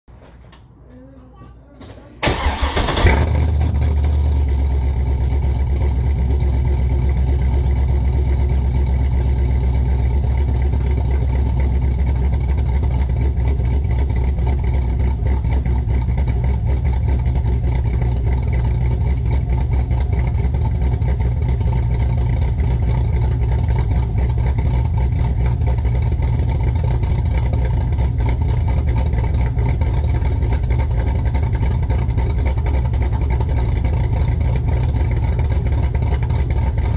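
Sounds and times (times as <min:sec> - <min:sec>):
car engine idling: 0:02.2 - 0:36.9.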